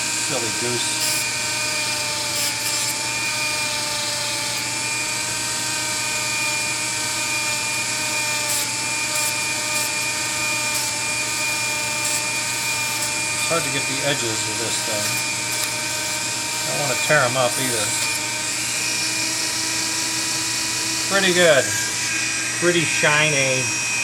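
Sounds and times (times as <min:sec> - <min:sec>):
rotary tool whining: 0:00.0 - 0:24.0.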